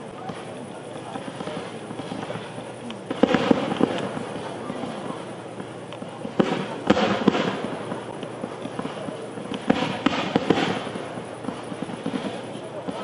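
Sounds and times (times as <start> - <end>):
fireworks bangs and cracks: 0.0 - 13.0
light firework pops: 0.0 - 13.0.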